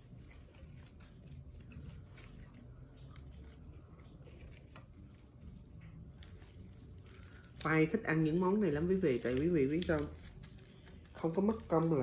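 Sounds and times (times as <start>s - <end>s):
lettuce leaves crackling: 0.0s - 12.0s.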